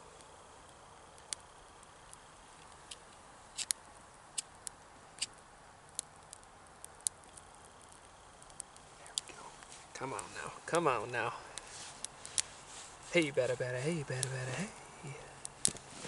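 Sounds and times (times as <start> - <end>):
twigs crackling and ticking: 0.1 - 16.0.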